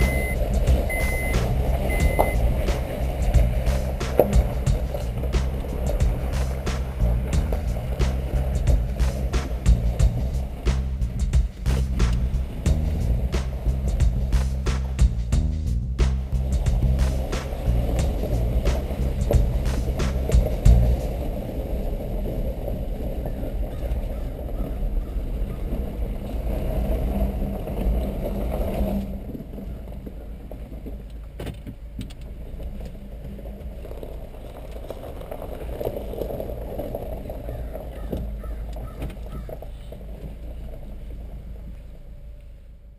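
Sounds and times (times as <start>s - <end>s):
car engine and tyre rumble: 0.0s - 42.9s.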